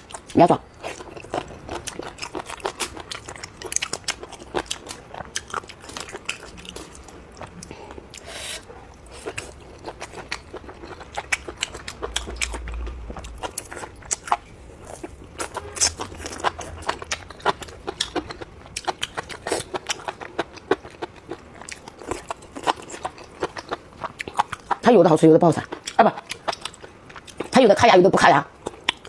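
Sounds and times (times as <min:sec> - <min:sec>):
crunchy chewing of bones: 0:00.0 - 0:24.8, 0:25.6 - 0:27.6, 0:28.5 - 0:29.0.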